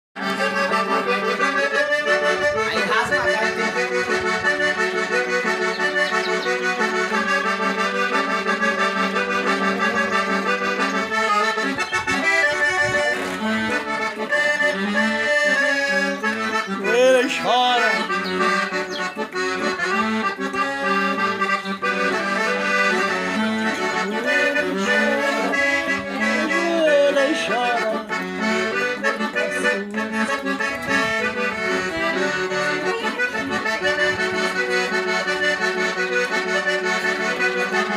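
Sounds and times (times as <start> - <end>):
accordion playing a tune: 0.2 - 37.9.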